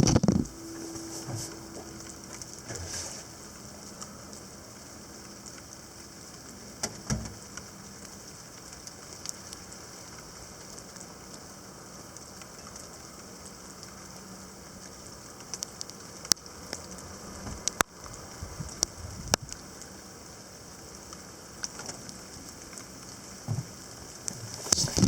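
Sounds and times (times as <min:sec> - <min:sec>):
light rain falling: 0:00.0 - 0:25.0
raindrops ticking: 0:00.0 - 0:25.0.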